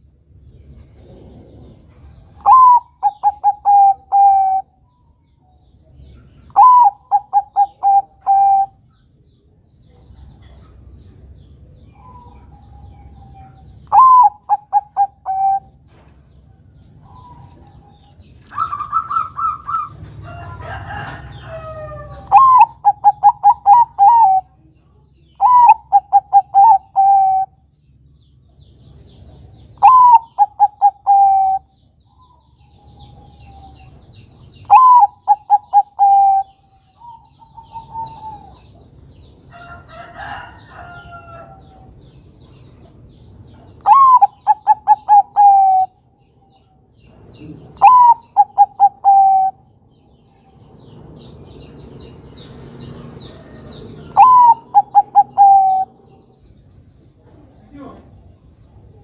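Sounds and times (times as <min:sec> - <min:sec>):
dove cooing song: 0:00.8 - 0:05.1, 0:05.8 - 0:09.0, 0:11.6 - 0:24.7, 0:25.3 - 0:27.6, 0:29.5 - 0:42.1, 0:42.8 - 0:57.4.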